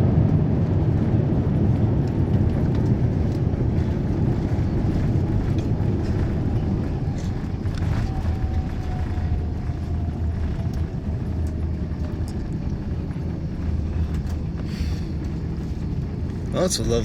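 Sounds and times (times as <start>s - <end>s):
aircraft engines rumbling in cabin: 0.0s - 17.0s.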